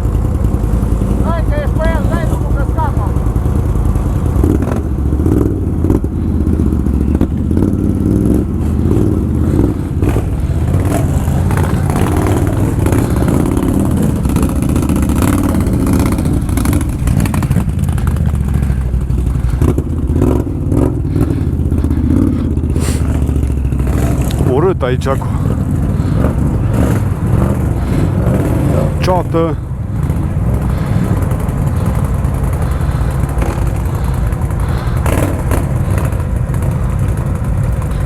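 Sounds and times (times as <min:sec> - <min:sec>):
atv engine running hard: 0:00.0 - 0:38.0.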